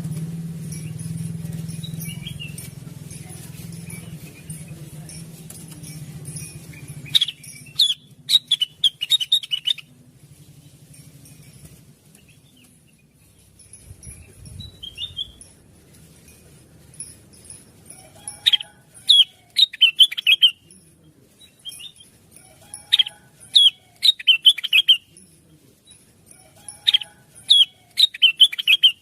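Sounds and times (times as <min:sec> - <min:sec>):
bird chirping: 0:00.7 - 0:05.2, 0:05.8 - 0:09.9, 0:12.1 - 0:15.6, 0:17.0 - 0:25.2, 0:25.9 - 0:29.0.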